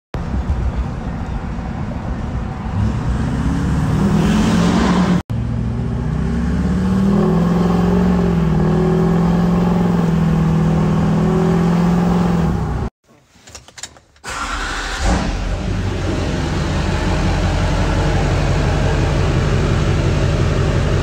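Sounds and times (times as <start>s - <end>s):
diesel engine accelerating and droning: 0.2s - 12.9s, 14.8s - 21.0s.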